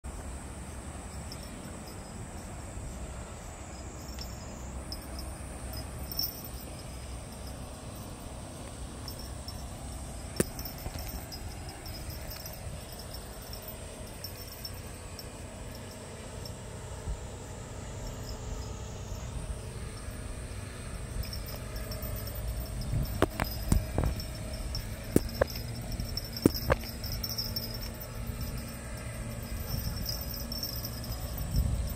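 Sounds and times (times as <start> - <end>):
high insect chirping: 0.1 - 31.9.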